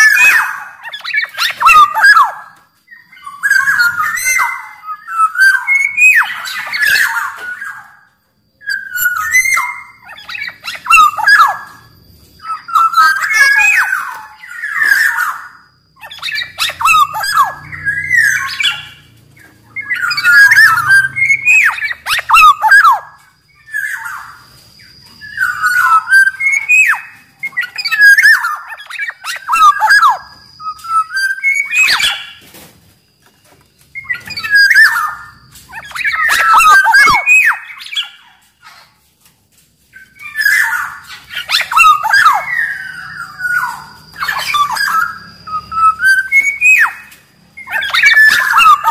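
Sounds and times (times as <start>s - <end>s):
oriole singing whistled notes: 0.0s - 39.0s, 39.9s - 48.9s.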